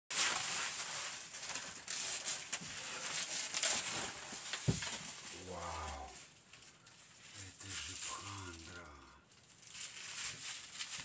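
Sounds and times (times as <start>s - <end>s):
plastic wrap rustling and crinkling: 0.1s - 11.0s.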